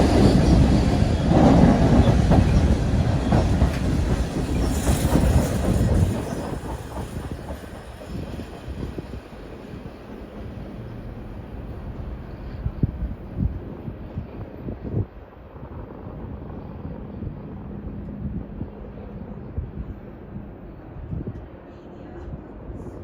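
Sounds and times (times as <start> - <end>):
train cars rolling past: 0.0 - 19.4.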